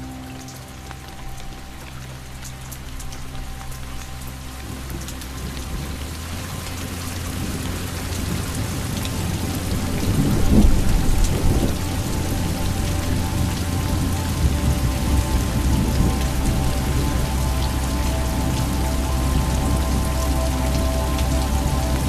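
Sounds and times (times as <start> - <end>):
steady rain falling: 0.0 - 22.0
low rumble of thunder: 2.8 - 22.0.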